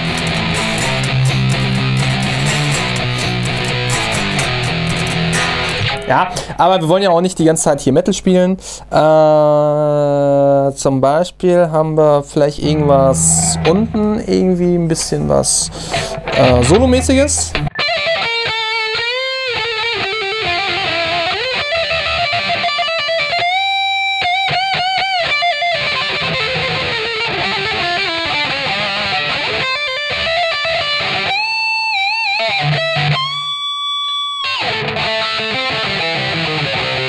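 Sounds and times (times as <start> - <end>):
electric guitar lead lines: 0.0 - 6.6, 12.5 - 37.0.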